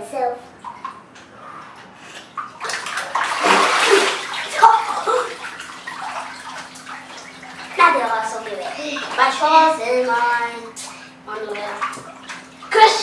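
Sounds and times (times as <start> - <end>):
water splashing in a bathtub: 0.2 - 13.0.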